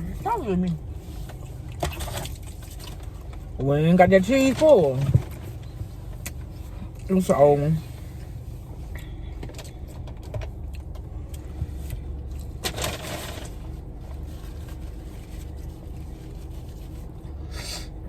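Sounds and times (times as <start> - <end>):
car cabin hum: 0.0 - 17.4.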